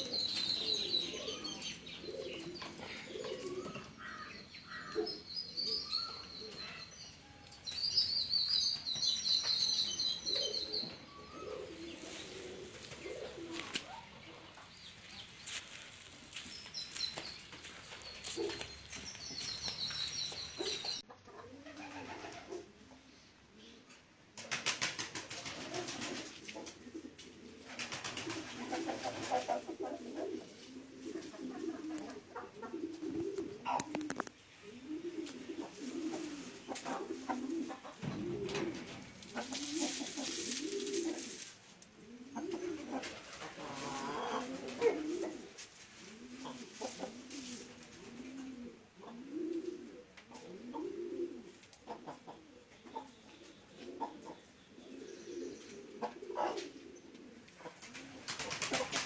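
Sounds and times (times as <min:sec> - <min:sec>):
pigeons cooing: 0:00.0 - 0:07.0, 0:08.6 - 0:59.0.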